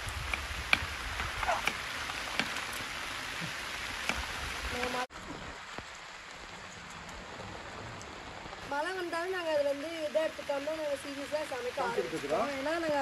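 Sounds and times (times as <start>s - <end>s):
sharp ticks of raindrops: 0.0s - 13.0s
steady rain falling: 0.0s - 13.0s.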